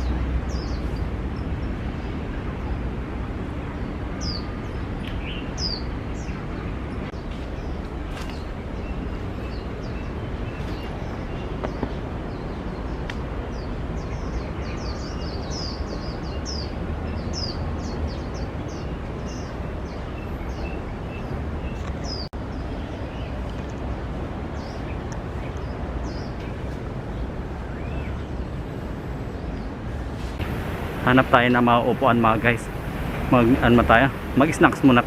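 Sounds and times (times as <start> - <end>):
birds chirping: 0.0 - 35.0
steady low background rumble: 0.0 - 35.0.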